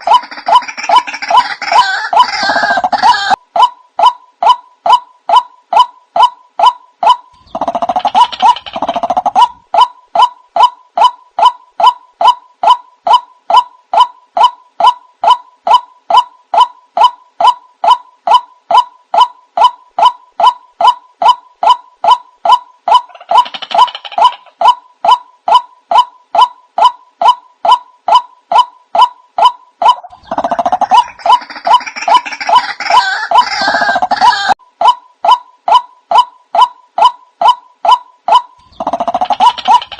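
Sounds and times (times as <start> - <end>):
harsh bird calling: 0.0 - 3.4, 4.0 - 34.6, 35.2 - 39.9.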